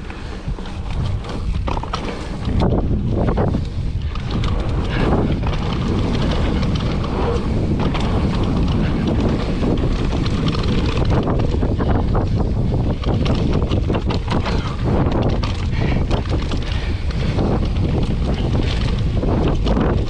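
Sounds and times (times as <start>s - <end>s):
bike clicks and rattles: 0.0s - 20.0s
tyres rolling over dirt: 0.0s - 20.0s
wind buffeting microphone: 0.0s - 20.0s.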